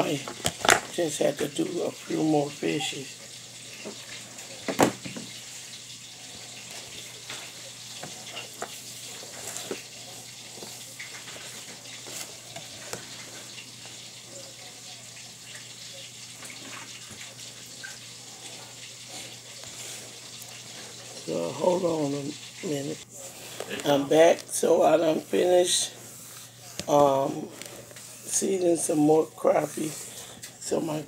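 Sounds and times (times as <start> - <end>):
fish frying in grease: 0.0 - 31.0.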